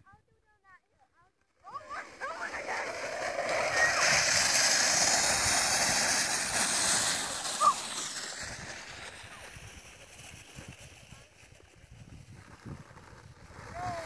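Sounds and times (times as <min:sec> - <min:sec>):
toboggan scraping over snow: 0:01.5 - 0:14.0.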